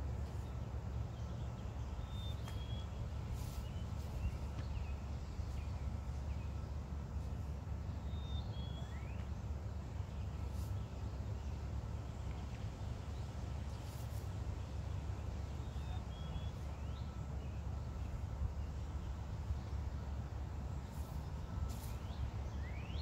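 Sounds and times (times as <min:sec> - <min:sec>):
low outdoor rumble: 0:00.0 - 0:23.0
birds chirping: 0:00.2 - 0:23.0.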